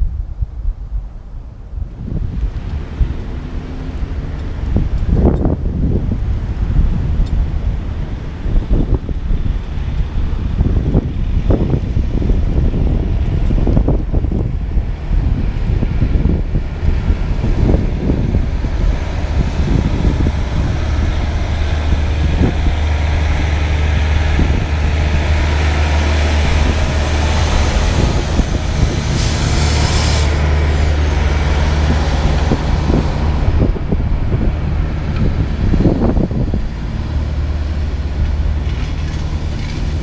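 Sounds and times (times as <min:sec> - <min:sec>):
truck diesel engine running: 0:02.3 - 0:40.0.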